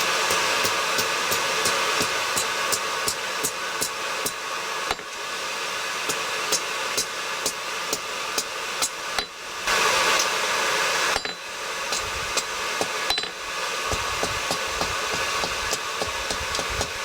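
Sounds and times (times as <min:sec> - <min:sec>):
hammer striking steel on anvil: 0:00.0 - 0:05.2, 0:06.1 - 0:09.4, 0:11.2 - 0:17.0.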